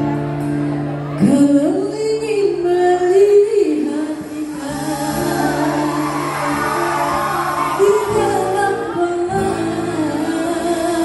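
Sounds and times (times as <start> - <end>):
woman singing: 1.2 - 11.0.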